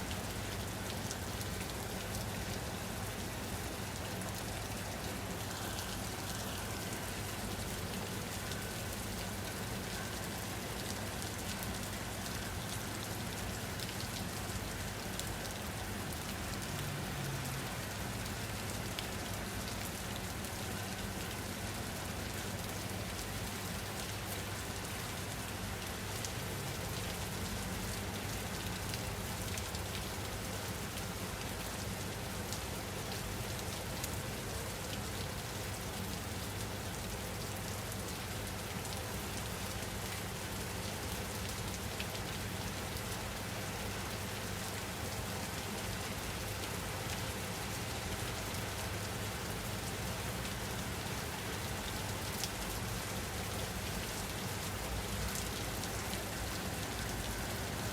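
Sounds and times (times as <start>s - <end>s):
steady rain patter: 0.0s - 57.9s.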